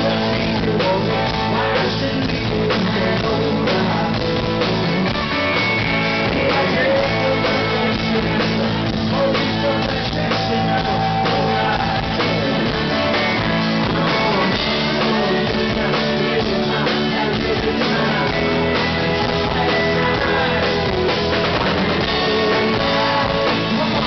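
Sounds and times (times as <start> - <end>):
drum kit: 0.0 - 24.0
man singing: 0.0 - 24.0.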